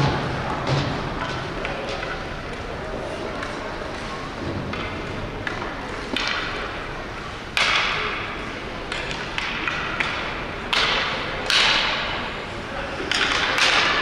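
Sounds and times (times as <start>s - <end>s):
hockey sticks and puck knocking: 0.0s - 2.7s, 3.3s - 6.9s, 7.5s - 12.4s, 13.0s - 14.0s.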